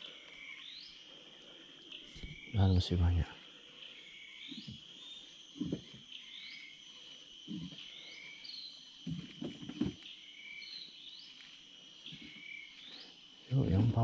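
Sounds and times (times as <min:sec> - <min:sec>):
bird chirping: 0:00.0 - 0:14.0
insect drone: 0:00.0 - 0:14.0.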